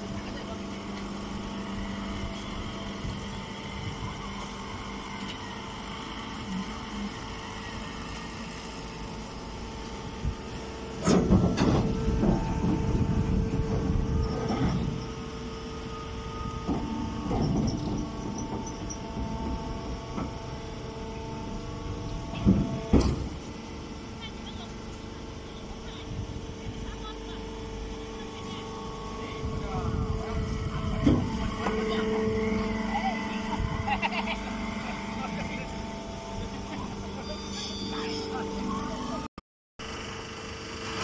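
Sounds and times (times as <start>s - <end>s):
baling press humming: 0.0s - 39.3s.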